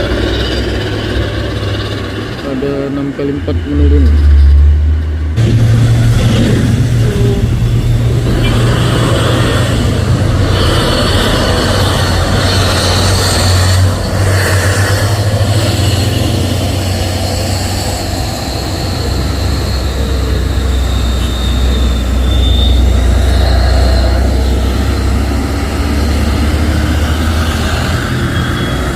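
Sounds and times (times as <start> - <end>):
truck diesel engine running: 0.0 - 28.9.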